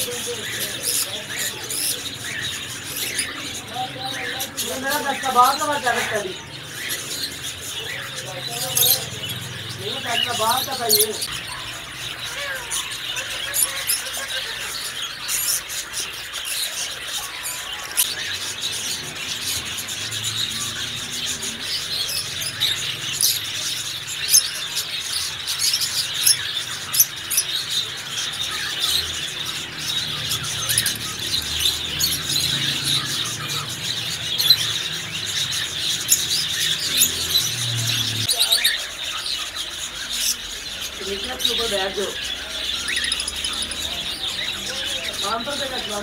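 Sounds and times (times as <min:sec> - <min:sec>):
lovebirds chattering and shrieking: 0:00.0 - 0:46.0.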